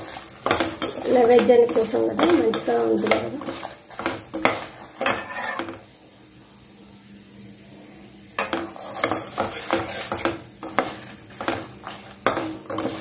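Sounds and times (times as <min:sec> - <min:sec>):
spoon scraping a metal pan: 0:00.0 - 0:05.8, 0:08.4 - 0:13.0
faint frying sizzle: 0:00.0 - 0:13.0.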